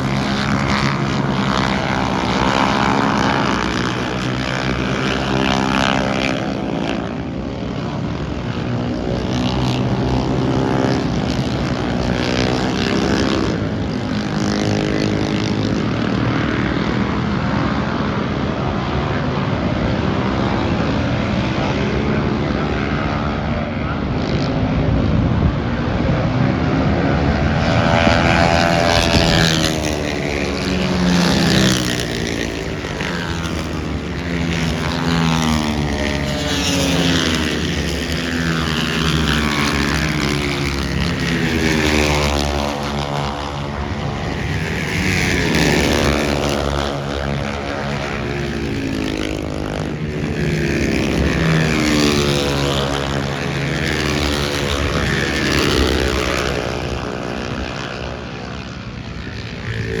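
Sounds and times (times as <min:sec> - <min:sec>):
propeller aircraft engines droning: 0:00.0 - 1:00.0.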